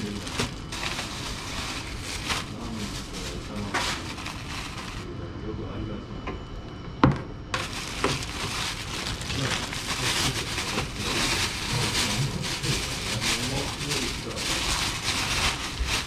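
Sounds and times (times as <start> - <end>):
plastic bag rustling: 0.0 - 5.0, 7.6 - 16.0.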